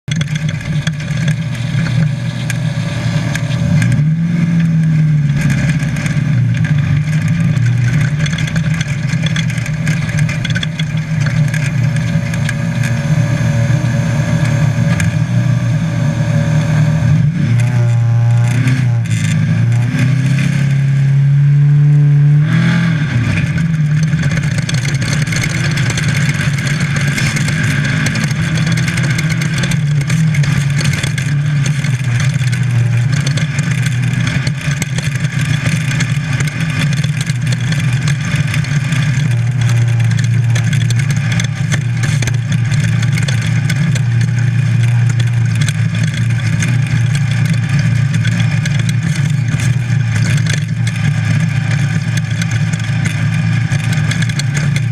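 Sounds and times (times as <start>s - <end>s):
rattling: 0.1s - 21.0s, 23.0s - 54.9s
race car engine running hard: 0.1s - 54.9s.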